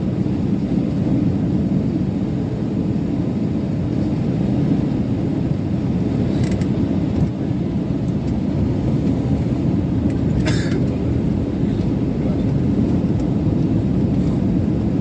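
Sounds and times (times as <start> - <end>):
airliner cabin engine noise: 0.0 - 15.0.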